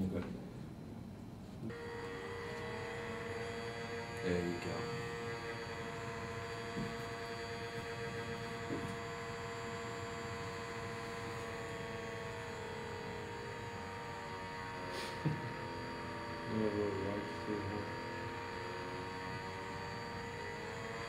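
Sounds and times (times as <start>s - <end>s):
small electric fan whirring: 0.0s - 21.0s.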